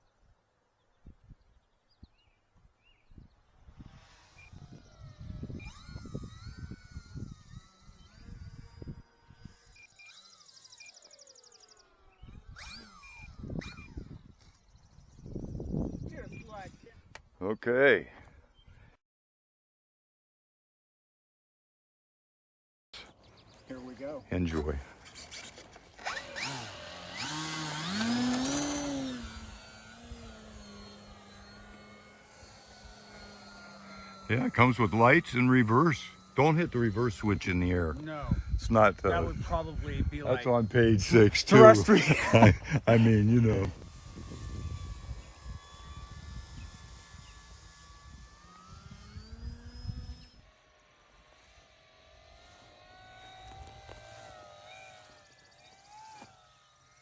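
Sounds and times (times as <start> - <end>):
model plane motor whining: 1.0 - 17.3, 23.0 - 57.0.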